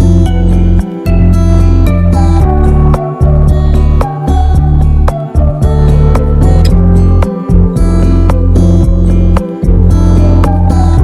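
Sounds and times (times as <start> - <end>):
plucked guitar music with beat: 0.0 - 11.0.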